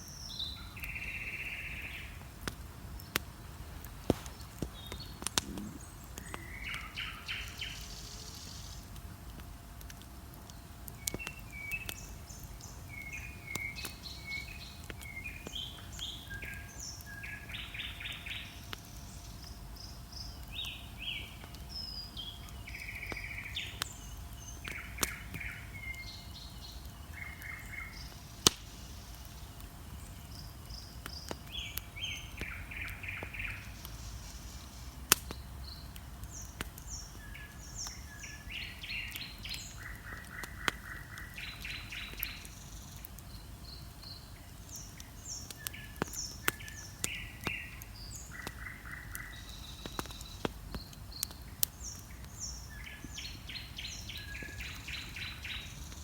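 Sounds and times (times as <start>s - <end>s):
bonfire crackling and popping: 0.0s - 56.0s
songbirds singing: 0.0s - 56.0s.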